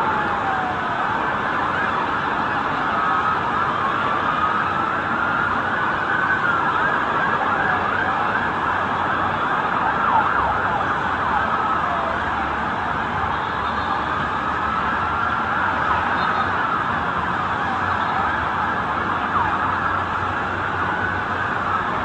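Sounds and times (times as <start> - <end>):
city noise: 0.0 - 22.0
emergency sirens wailing: 0.0 - 22.0.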